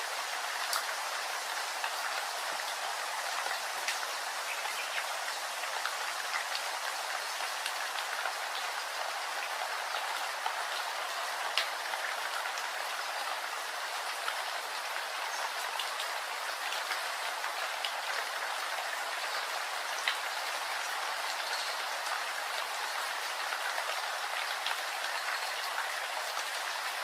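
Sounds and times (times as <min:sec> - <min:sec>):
steady rain hissing: 0:00.0 - 0:27.0.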